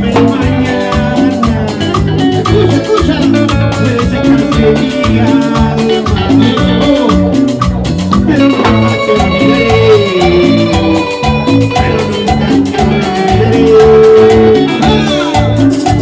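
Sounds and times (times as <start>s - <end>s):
live band playing latin dance music: 0.0s - 16.0s.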